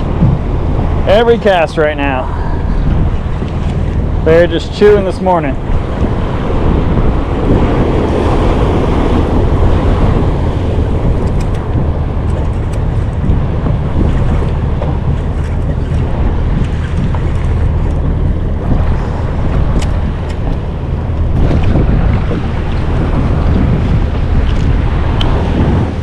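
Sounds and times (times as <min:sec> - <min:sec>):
water washing against boat: 0:00.0 - 0:26.0
wind rumble on microphone: 0:00.0 - 0:26.0.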